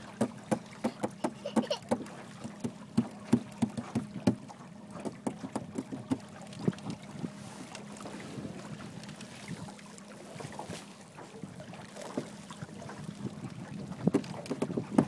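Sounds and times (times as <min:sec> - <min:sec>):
boat motor humming: 0:00.0 - 0:15.0
water slapping hull: 0:00.0 - 0:15.0.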